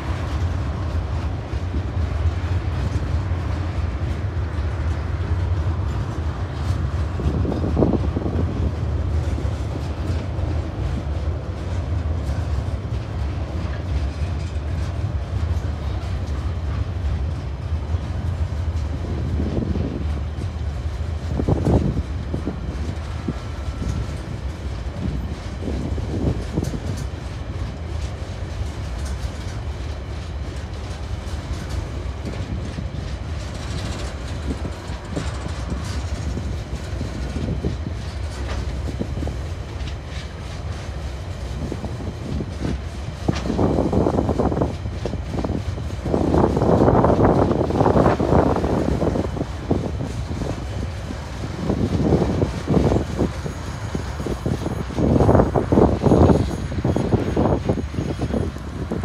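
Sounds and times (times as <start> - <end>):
clickety-clack of rail joints: 0.0 - 59.0
train wheels rumbling on rails: 0.0 - 59.0.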